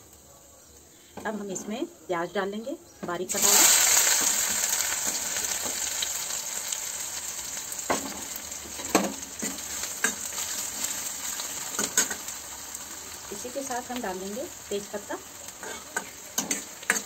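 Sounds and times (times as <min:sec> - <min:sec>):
onion sizzling in oil: 0:03.2 - 0:17.0.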